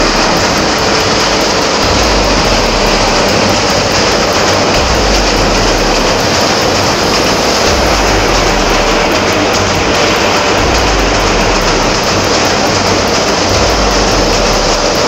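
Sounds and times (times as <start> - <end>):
train rumbling over steel bridge: 0.0 - 15.0.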